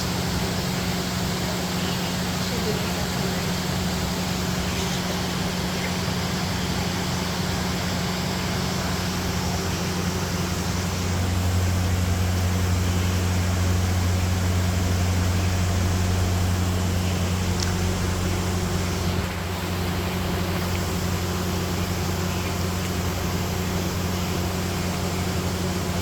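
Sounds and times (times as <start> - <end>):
constant hiss: 0.0 - 26.0
low machine hum: 0.0 - 26.0.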